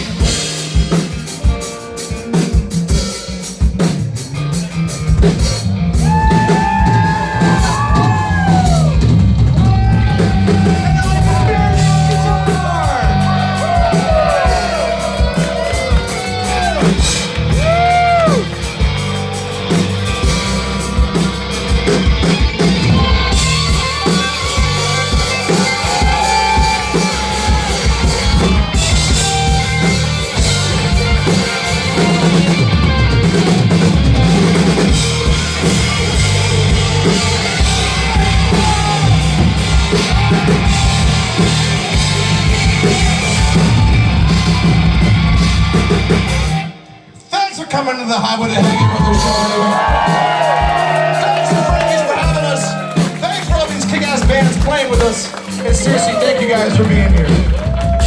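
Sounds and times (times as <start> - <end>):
bass: 0.0 - 46.9, 47.6 - 58.0
electric guitar: 0.0 - 47.3
drum kit: 0.0 - 58.0.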